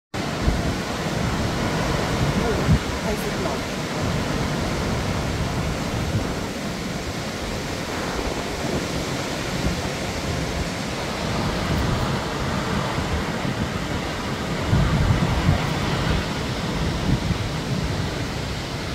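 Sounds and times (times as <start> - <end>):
wind rushing through trees: 0.1 - 18.9
wind gusts buffeting microphone: 0.2 - 18.9.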